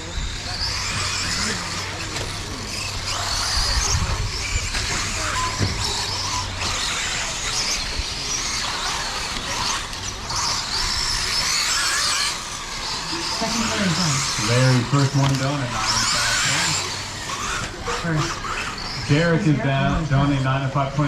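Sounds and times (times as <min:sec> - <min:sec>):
rc car motors whining: 0:00.0 - 0:21.0.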